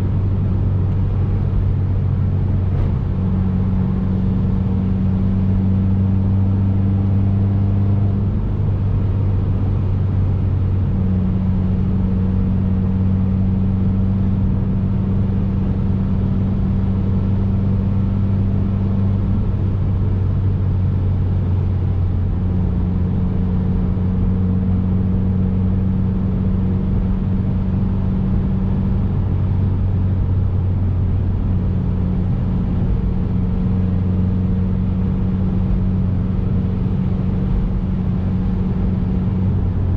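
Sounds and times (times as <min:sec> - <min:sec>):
car engine cruising: 0:00.0 - 0:39.9
road rumble: 0:00.0 - 0:39.9.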